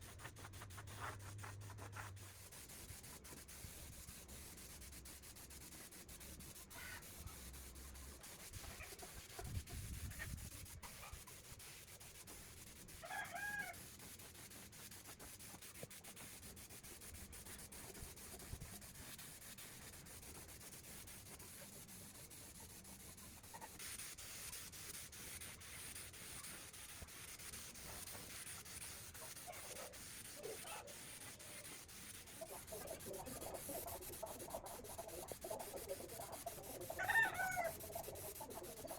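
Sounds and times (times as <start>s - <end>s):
hand sanding rubbing: 0.0s - 13.1s, 13.7s - 38.9s.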